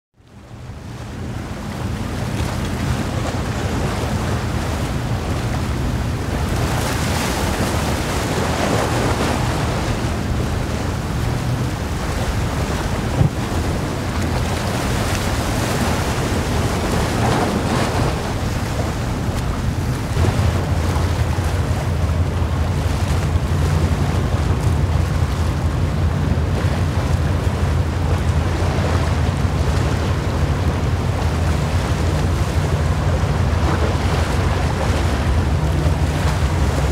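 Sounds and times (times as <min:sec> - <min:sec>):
ship engine drone: 0:00.2 - 0:36.9
wind buffeting microphone: 0:00.8 - 0:36.9.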